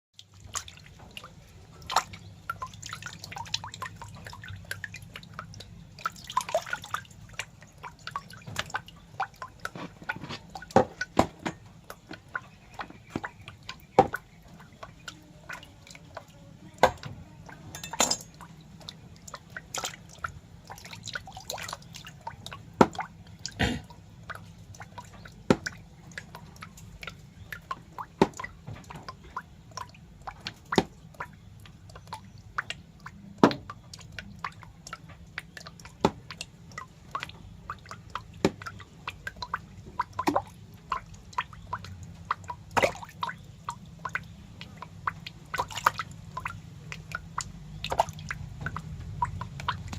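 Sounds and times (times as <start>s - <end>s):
wet drips and clicks: 0.2s - 49.9s.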